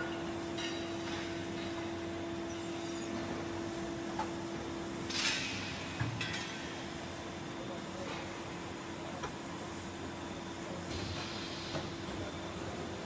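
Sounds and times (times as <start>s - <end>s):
furnace electrical hum: 0.0s - 13.0s.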